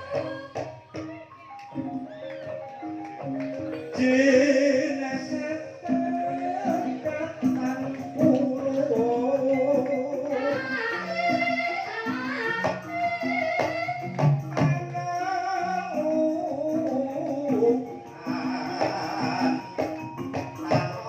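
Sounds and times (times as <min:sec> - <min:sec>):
high percussion ticking: 0:00.0 - 0:21.0
metallophone notes: 0:00.0 - 0:21.0
wavering sung vocal: 0:03.2 - 0:21.0.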